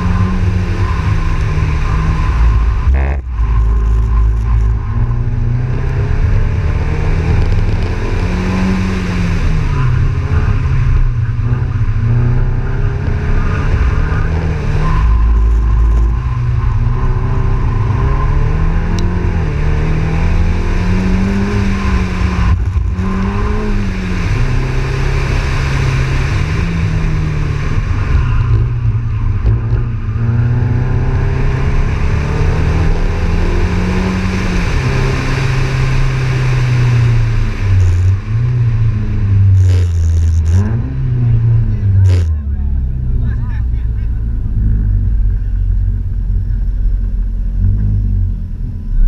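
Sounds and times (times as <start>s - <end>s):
race car engine revving: 0.0s - 49.0s
road and wind noise: 0.0s - 49.0s.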